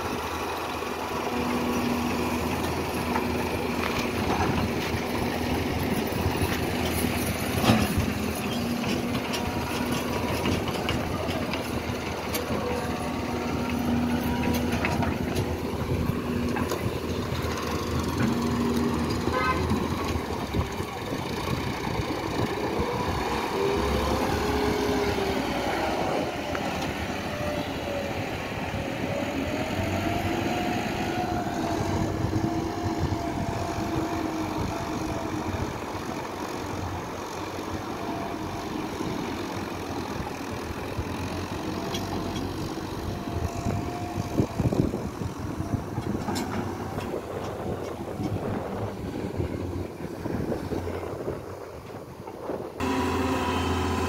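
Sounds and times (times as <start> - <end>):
excavator diesel engine under load: 0.0 - 54.0
tractor diesel engine: 0.0 - 54.0.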